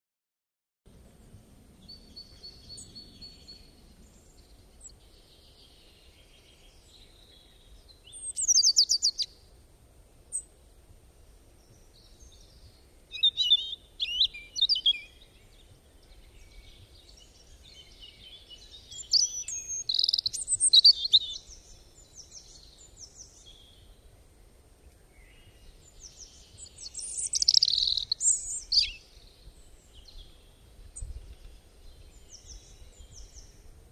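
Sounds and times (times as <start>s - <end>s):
songbirds singing and chirping: 0.9s - 9.6s, 10.2s - 33.9s.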